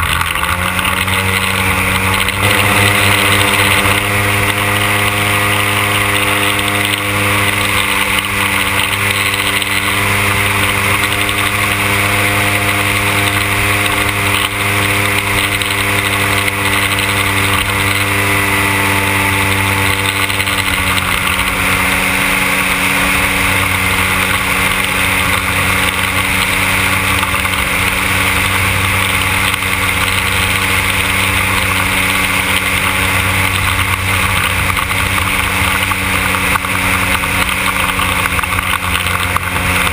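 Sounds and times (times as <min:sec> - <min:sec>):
model airplane petrol engine: 0:00.0 - 0:39.9.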